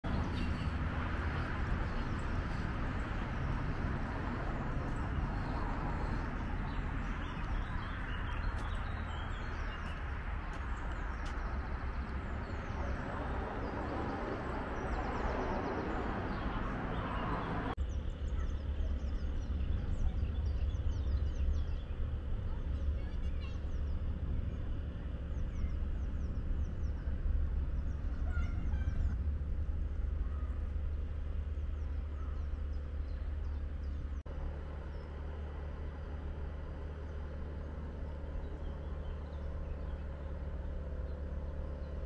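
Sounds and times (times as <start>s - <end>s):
small birds chirping: 0.0s - 29.2s, 29.8s - 42.0s
steady low rumble: 0.0s - 42.0s.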